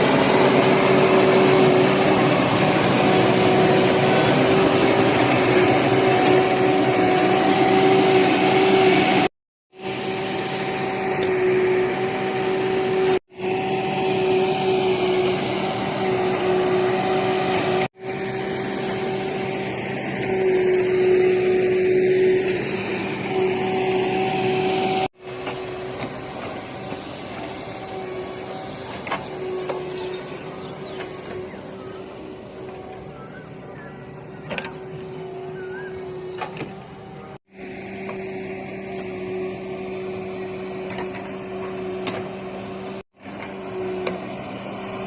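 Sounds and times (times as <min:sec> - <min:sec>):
constant whine: 0:00.0 - 0:45.0
diesel engine under load: 0:00.0 - 0:45.0.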